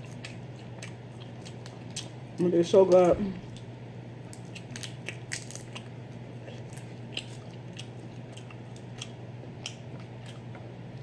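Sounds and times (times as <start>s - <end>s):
wet chewing and lip-smacking: 0.0s - 2.2s, 2.9s - 11.0s.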